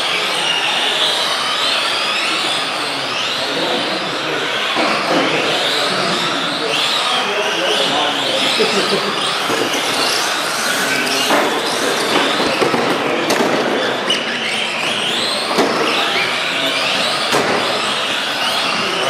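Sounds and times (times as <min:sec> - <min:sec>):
rc truck electric motors whining: 0:00.0 - 0:19.0.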